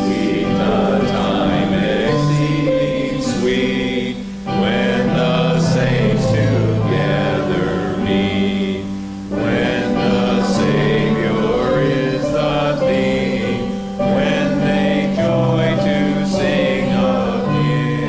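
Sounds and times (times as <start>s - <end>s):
congregation singing a hymn: 0.0s - 18.0s
steady musical accompaniment: 0.0s - 18.0s.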